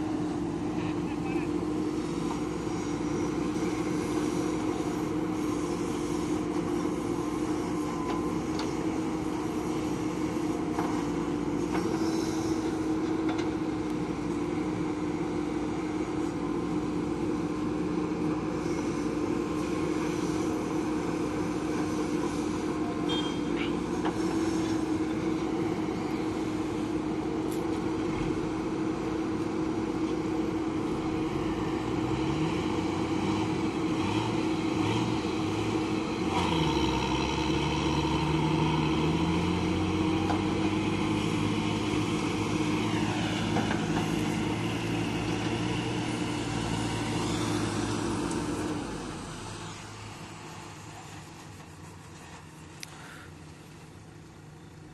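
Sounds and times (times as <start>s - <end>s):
backhoe diesel engine running: 0.0s - 54.9s
dump truck engine: 0.0s - 54.9s.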